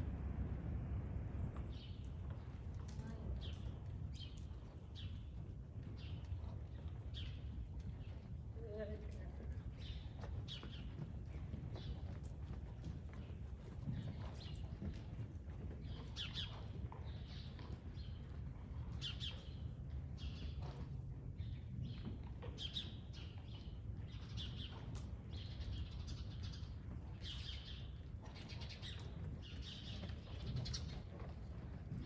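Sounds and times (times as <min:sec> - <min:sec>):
small birds chirping: 0:01.7 - 0:12.2, 0:15.8 - 0:20.8, 0:21.4 - 0:31.8.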